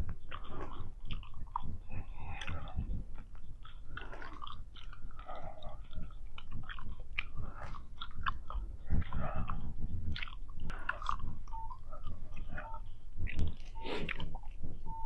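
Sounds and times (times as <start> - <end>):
gum chewing: 0.0 - 15.0
mouth clicks and lip smacks: 0.0 - 15.0.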